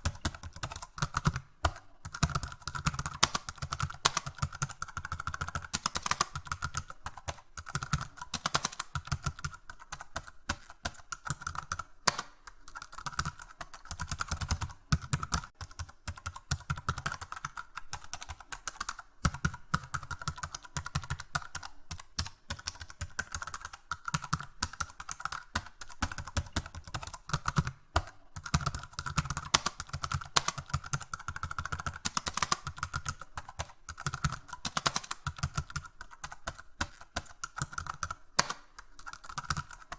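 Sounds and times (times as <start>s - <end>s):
typing on computer keyboard: 0.0s - 39.9s.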